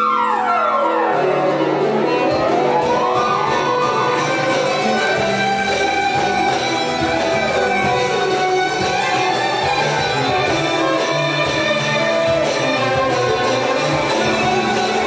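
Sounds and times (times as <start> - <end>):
instrumental ensemble music: 0.0 - 15.0.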